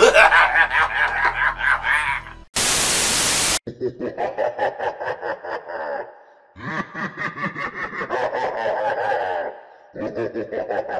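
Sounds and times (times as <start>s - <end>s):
person laughing: 0.0s - 2.5s, 3.7s - 10.9s.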